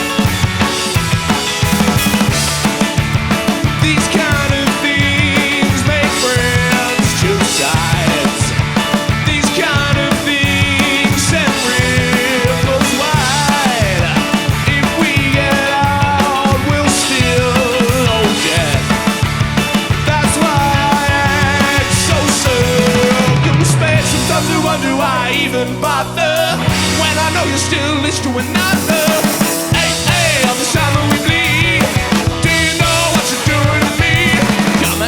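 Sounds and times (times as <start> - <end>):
bass: 0.0 - 35.0
lead guitar bending notes: 0.0 - 35.0
rock band playing live: 0.0 - 35.0
steady drum beat: 0.0 - 35.0.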